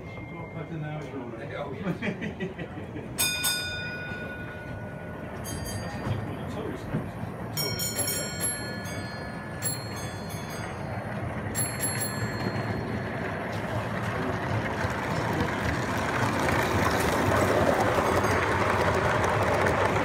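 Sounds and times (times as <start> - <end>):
model train running on track: 0.0 - 20.0.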